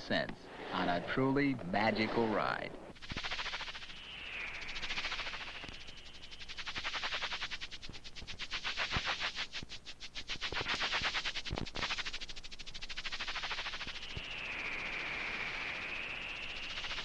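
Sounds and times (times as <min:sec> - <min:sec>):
rapid pulsing sound effect: 0:00.5 - 0:17.0.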